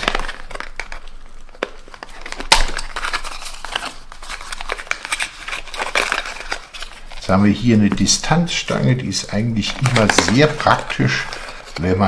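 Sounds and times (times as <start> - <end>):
card cracking: 0.0 - 12.0.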